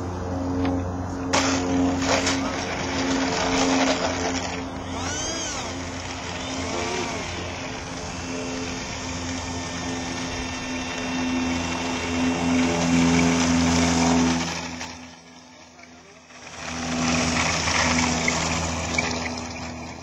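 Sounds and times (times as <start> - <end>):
electric ducted fan rushing: 0.0 - 20.0
wheels rolling on asphalt: 0.0 - 20.0.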